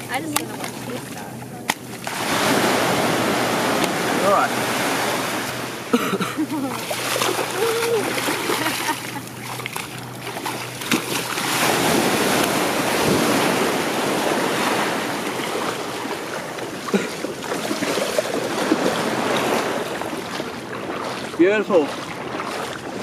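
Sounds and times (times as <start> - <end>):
shallow water splashing: 0.0 - 23.0
small waves: 0.0 - 23.0
wind: 0.0 - 23.0.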